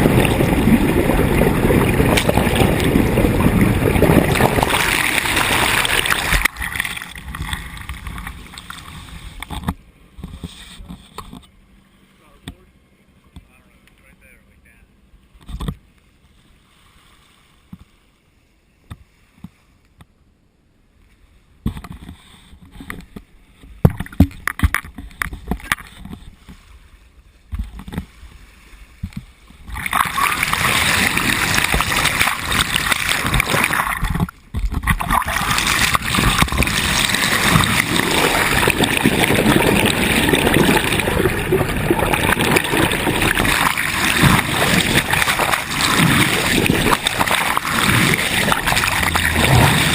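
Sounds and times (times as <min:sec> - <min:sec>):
water rushing along hull: 0:00.0 - 0:19.6, 0:21.7 - 0:49.9.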